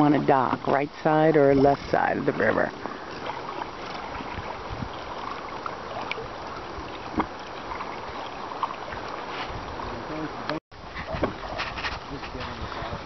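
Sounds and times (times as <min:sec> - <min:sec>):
water rushing along hulls: 0:00.0 - 0:13.0.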